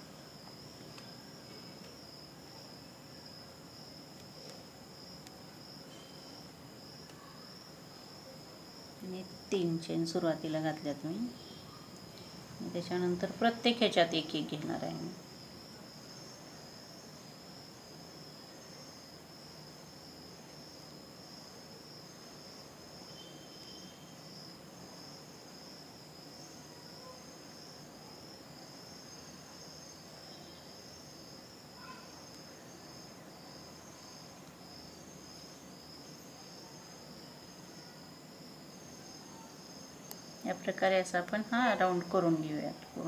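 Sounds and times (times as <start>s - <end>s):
crickets trilling: 0.0s - 43.0s
room hiss: 0.0s - 43.0s.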